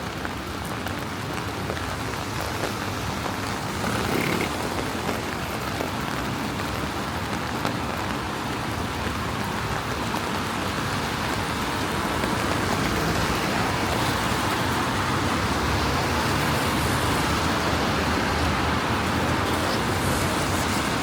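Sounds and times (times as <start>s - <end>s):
rain falling: 0.0s - 21.0s
traffic rumble: 0.0s - 21.0s
tyres hissing on wet road: 0.0s - 21.0s.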